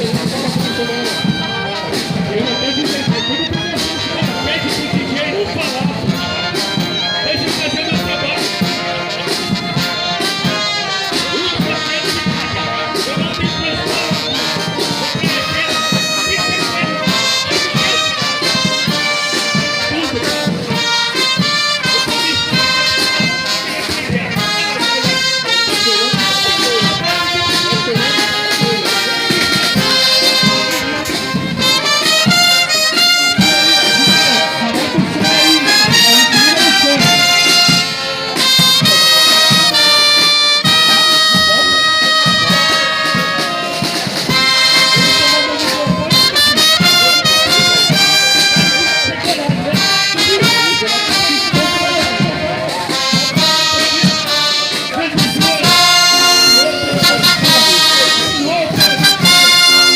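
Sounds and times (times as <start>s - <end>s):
brass instruments: 0.0s - 59.9s
military band playing: 0.0s - 59.9s.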